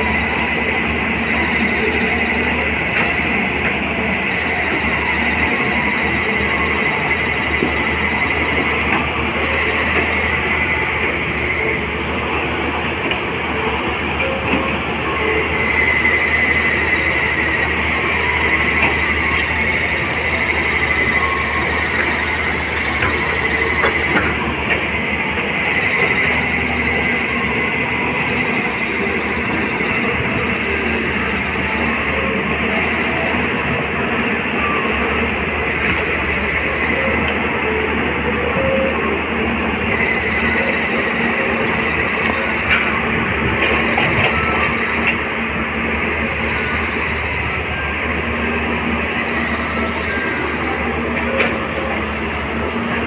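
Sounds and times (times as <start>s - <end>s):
continuous high whine: 0.0s - 53.0s
diesel engine low hum: 0.0s - 53.0s.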